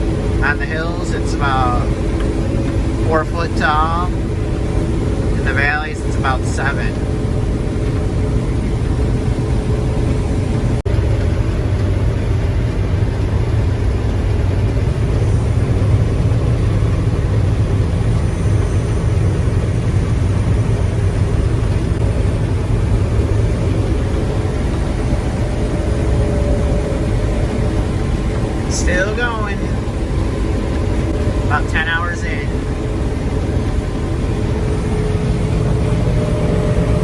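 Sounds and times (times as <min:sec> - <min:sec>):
combine harvester engine drone: 0:00.0 - 0:37.0
steady hum: 0:00.0 - 0:37.0.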